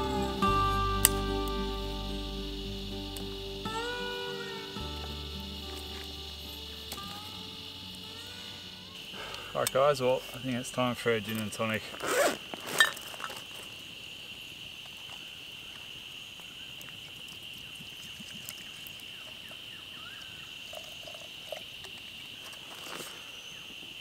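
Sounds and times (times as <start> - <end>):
campfire crackling: 0.0 - 23.2
high insect drone: 0.0 - 24.0.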